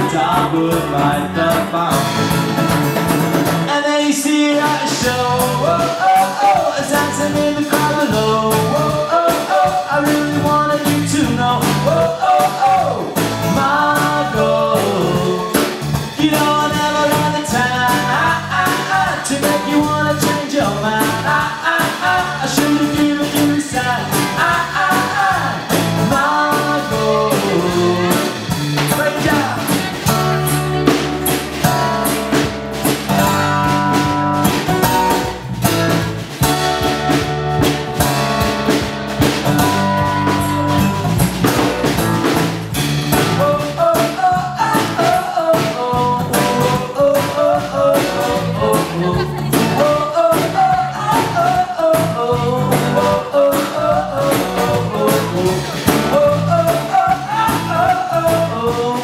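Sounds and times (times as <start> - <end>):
drum beat: 0.0 - 3.7, 4.4 - 59.0
bass guitar: 0.0 - 59.0
lead guitar: 0.0 - 59.0.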